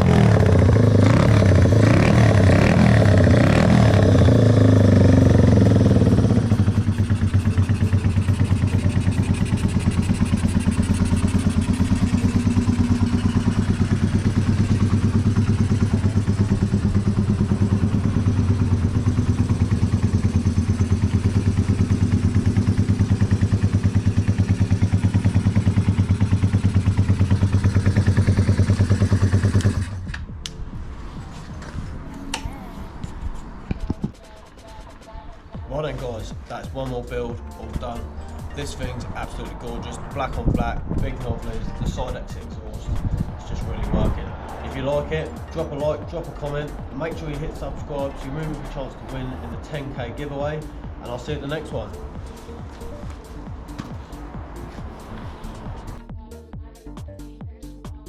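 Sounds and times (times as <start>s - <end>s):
motorcycle engine idling: 0.0s - 56.2s.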